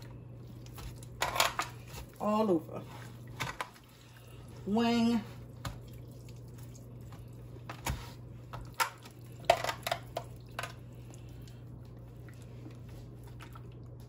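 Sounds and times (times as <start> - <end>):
wet squishes: 0.0 - 14.0.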